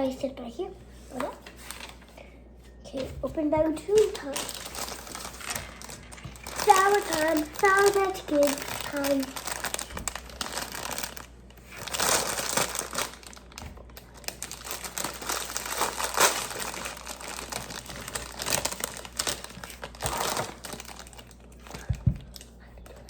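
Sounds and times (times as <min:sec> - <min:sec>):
plastic bag crinkling: 0:03.7 - 0:22.5.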